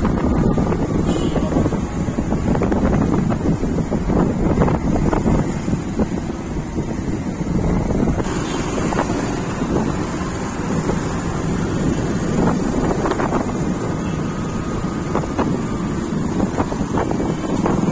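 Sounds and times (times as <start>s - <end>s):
street traffic: 0.0s - 17.9s
wind buffeting microphone: 0.0s - 17.9s.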